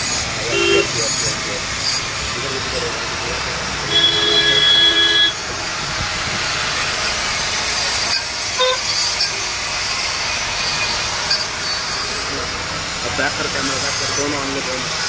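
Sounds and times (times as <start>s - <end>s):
angle grinder grinding metal: 0.0s - 15.0s.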